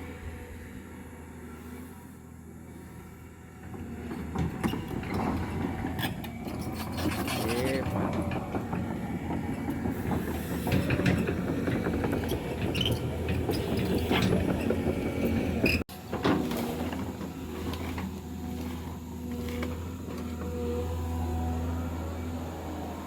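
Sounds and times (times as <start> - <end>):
excavator diesel engine running: 0.0 - 23.0
excavator tracks and bucket clanking: 0.0 - 23.0.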